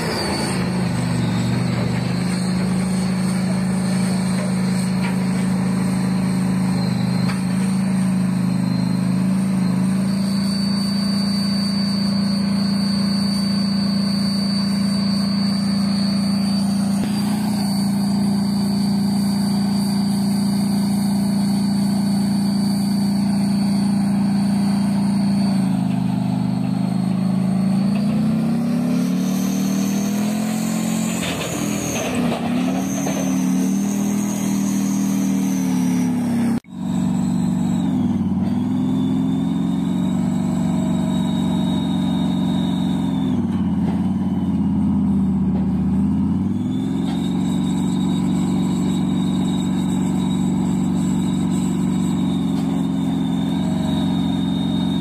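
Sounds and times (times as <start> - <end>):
tank diesel engine running hard: 0.0 - 55.0.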